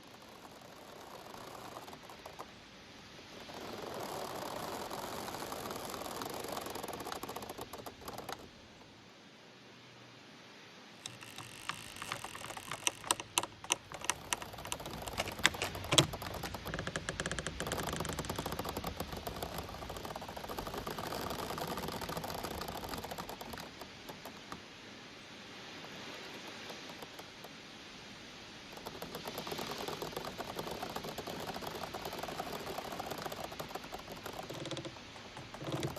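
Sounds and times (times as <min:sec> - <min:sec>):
bamboo stems creaking and clicking: 0:00.0 - 0:08.9, 0:11.0 - 0:24.8, 0:25.6 - 0:27.6, 0:28.6 - 0:35.9
leaves rustling: 0:00.0 - 0:09.1, 0:10.5 - 0:35.9.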